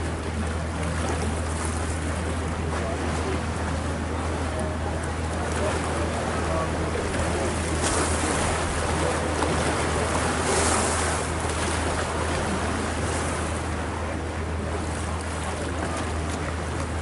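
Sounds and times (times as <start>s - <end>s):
boat engine droning: 0.0s - 17.0s
water splashing along hull: 0.0s - 17.0s.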